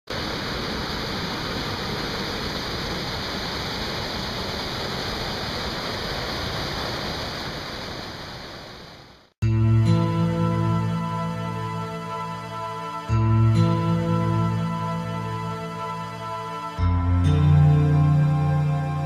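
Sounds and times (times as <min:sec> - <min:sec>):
waterfall rushing: 0:00.1 - 0:19.0.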